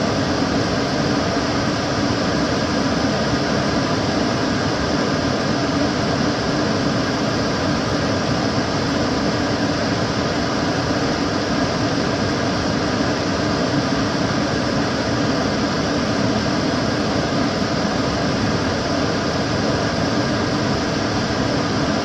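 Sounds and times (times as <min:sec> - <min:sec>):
extractor fan running: 0:00.0 - 0:22.0.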